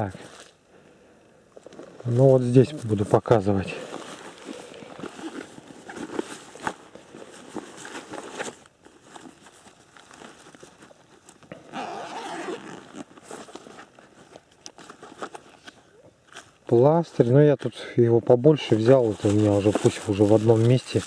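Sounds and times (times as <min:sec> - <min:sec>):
fabric pouch rustling: 0:01.6 - 0:16.5, 0:18.7 - 0:21.0.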